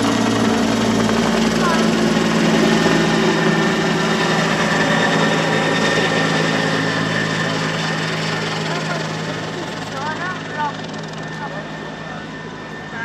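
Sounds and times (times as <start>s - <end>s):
helicopter rotor and engine drone: 0.0s - 13.0s
high turbine whine: 0.0s - 13.0s.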